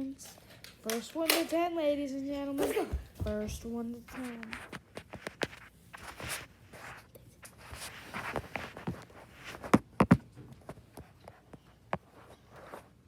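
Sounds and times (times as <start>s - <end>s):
scuffling footsteps: 1.4s - 12.9s
handling noise: 2.4s - 13.0s.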